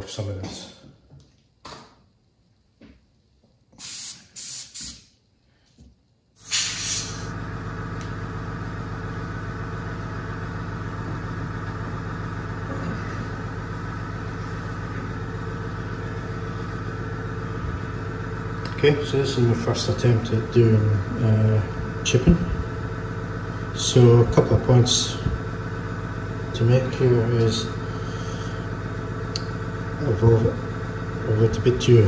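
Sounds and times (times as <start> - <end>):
electric air blower running: 3.7 - 5.1, 6.4 - 32.0.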